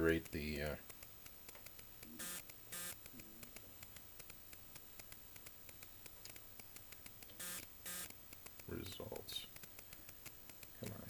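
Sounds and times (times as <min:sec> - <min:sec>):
faint ticks: 0:00.0 - 0:11.0
room hiss: 0:00.0 - 0:11.0
short hissing noises: 0:00.7 - 0:11.0.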